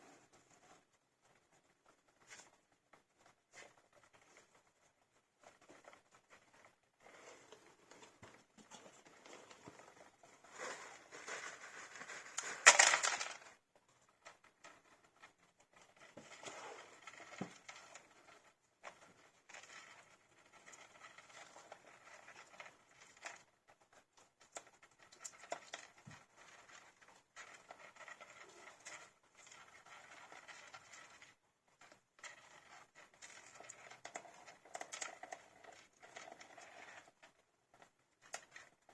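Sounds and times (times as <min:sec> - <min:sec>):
hamster pups scrabbling and rustling: 0:00.0 - 0:38.9.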